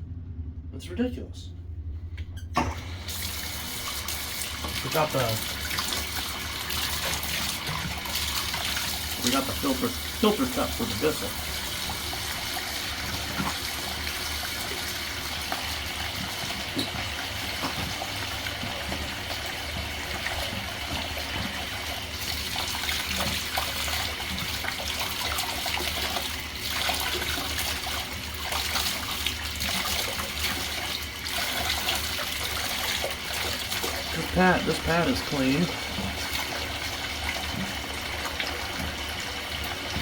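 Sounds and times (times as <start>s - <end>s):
tap water running and splashing: 2.6s - 40.0s.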